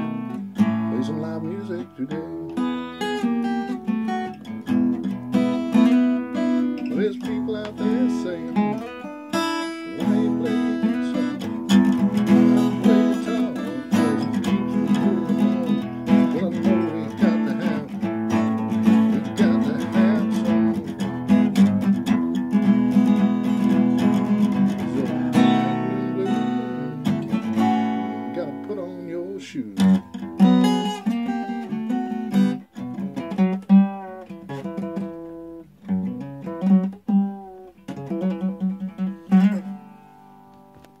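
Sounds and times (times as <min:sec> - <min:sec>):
acoustic guitar blues: 0:00.0 - 0:41.0.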